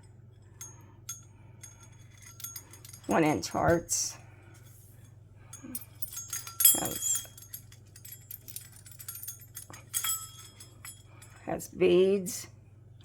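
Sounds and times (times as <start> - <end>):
metal tags clinking: 0.4 - 11.6.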